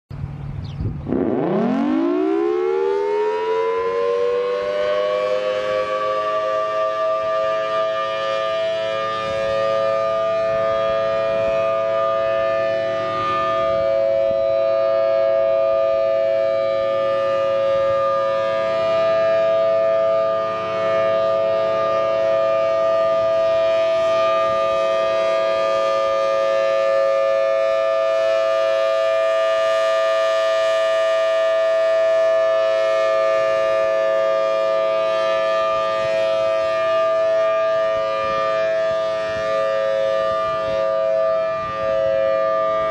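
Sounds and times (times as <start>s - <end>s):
warning siren steady tone: 0.2s - 42.9s.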